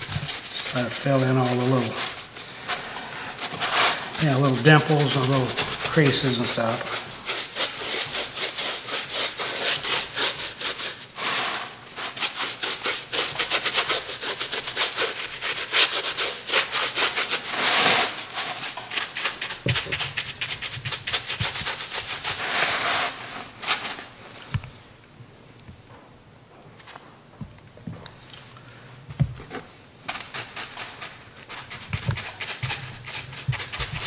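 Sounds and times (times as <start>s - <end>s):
paintbrush scrubbing: 0.0s - 24.1s, 30.1s - 34.0s.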